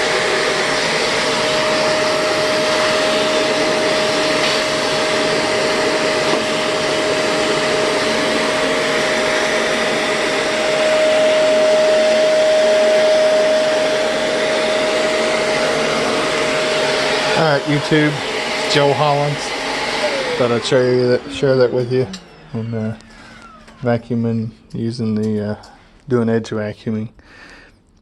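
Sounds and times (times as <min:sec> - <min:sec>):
vacuum cleaner motor whine: 0:00.0 - 0:25.3.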